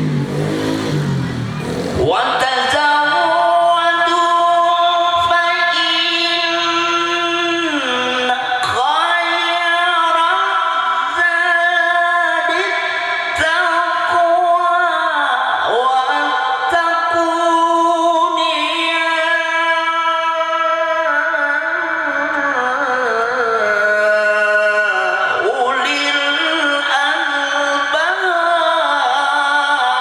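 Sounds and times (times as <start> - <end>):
man's melodic recitation: 1.8 - 30.0.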